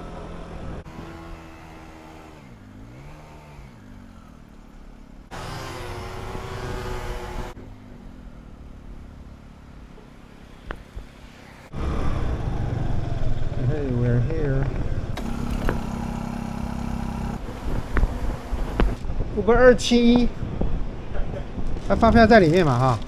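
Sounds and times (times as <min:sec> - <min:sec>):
scooter engine running: 0:00.0 - 0:19.4.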